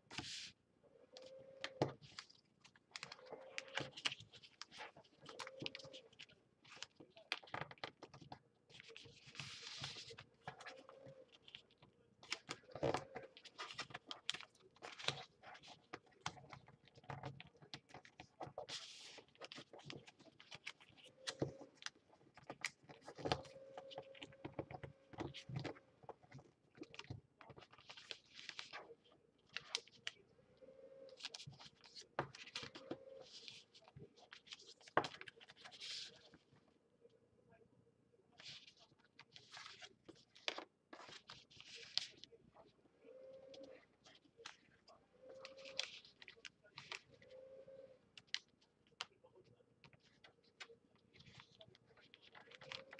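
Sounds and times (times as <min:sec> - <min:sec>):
paper crinkling and rustling: 0:00.0 - 0:30.2, 0:31.0 - 0:36.6, 0:38.3 - 0:52.9.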